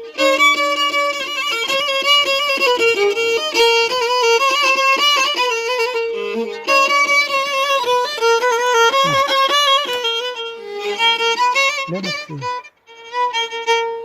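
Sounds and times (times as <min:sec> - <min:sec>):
instrumental melody: 0:00.0 - 0:14.0.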